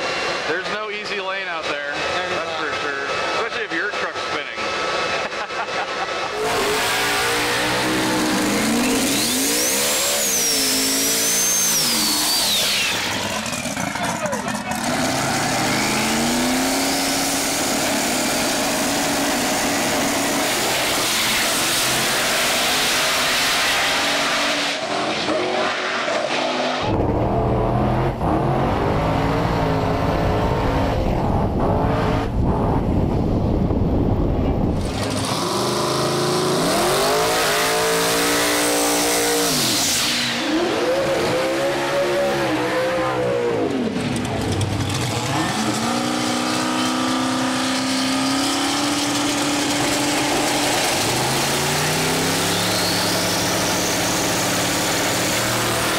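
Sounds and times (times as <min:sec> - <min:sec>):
drag racing engines at full throttle: 0:00.0 - 0:55.9.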